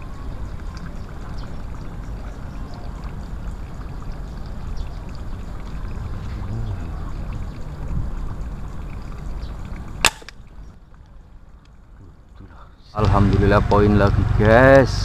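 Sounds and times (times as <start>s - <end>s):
faint ticks: 0.0s - 12.6s
rushing outdoor background noise: 0.0s - 15.0s.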